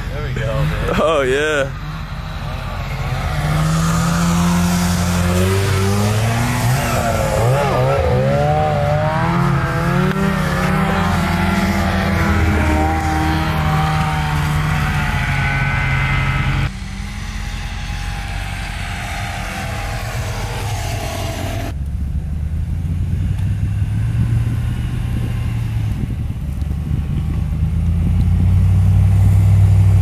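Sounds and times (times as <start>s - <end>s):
steady engine rumble: 0.0s - 30.0s
truck engine revving: 0.0s - 30.0s.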